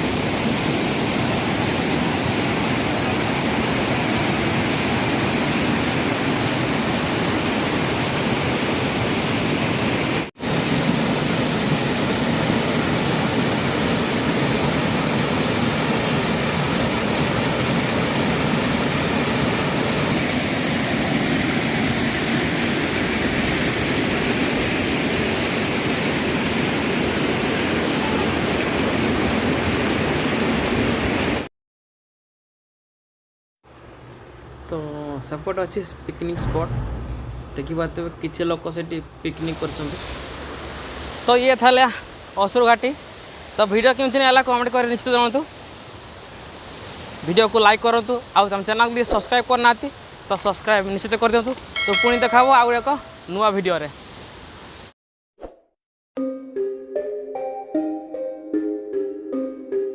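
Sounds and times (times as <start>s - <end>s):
waterfall rushing and splashing: 0.0s - 31.4s, 37.6s - 54.9s.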